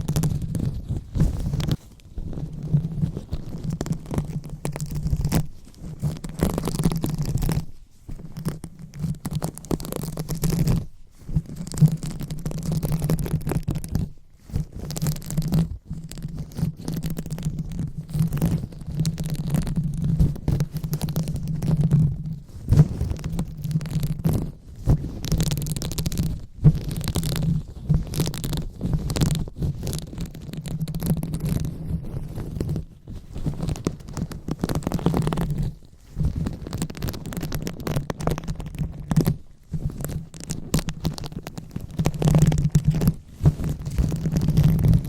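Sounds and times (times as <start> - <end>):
hands rubbing microphone: 0.0 - 45.0.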